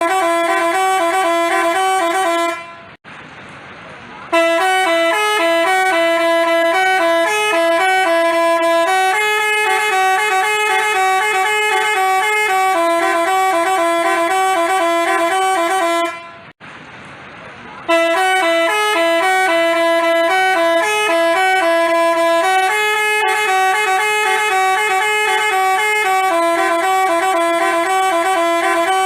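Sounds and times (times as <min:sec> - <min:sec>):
multi-tone bus horn melody: 0:00.0 - 0:03.0, 0:04.3 - 0:16.6, 0:17.8 - 0:29.0.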